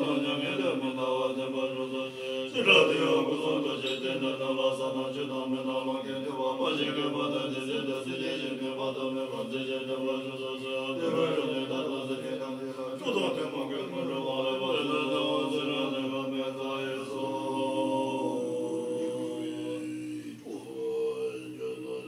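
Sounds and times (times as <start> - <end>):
monks chanting in unison: 0.0 - 22.0.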